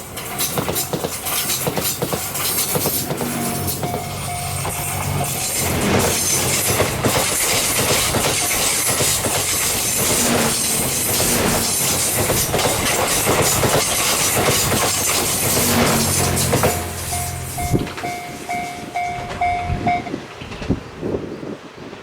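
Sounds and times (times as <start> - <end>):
train wheels clattering over rail joints: 0.0 - 21.2.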